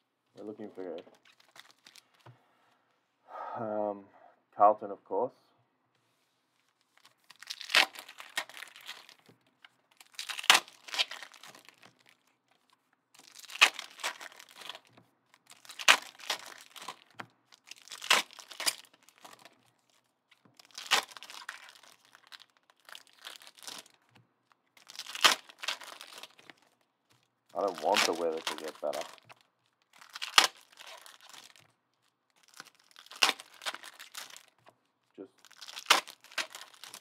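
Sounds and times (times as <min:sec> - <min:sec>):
card pack wrappers tearing and crinkling: 0:00.6 - 0:02.2, 0:06.7 - 0:09.3, 0:09.9 - 0:24.1, 0:24.8 - 0:37.0.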